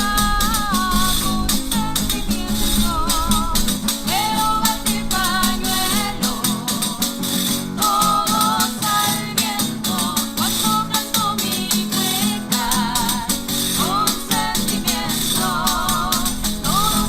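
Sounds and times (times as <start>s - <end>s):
rhythmic percussion: 0.0s - 17.0s
strummed guitar: 0.0s - 17.0s
voices singing with vibrato: 0.0s - 17.0s.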